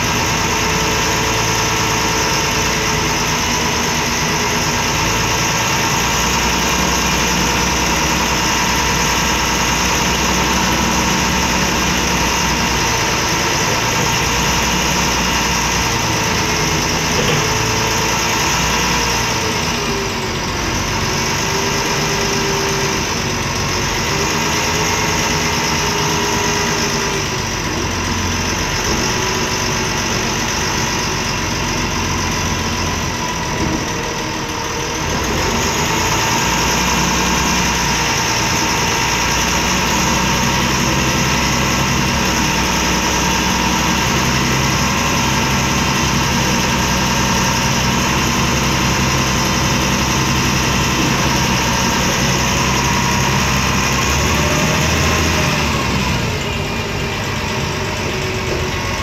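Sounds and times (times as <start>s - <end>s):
bus diesel engine idling: 0.0s - 59.0s.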